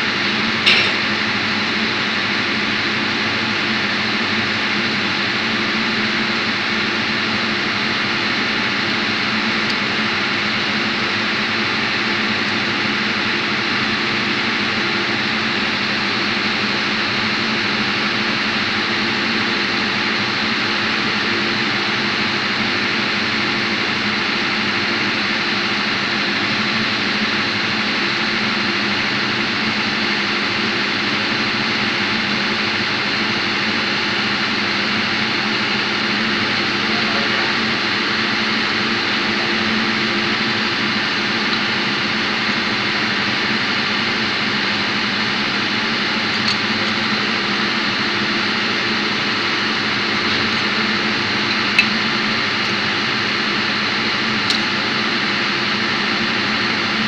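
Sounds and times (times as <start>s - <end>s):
diesel machinery droning: 0.0s - 57.0s.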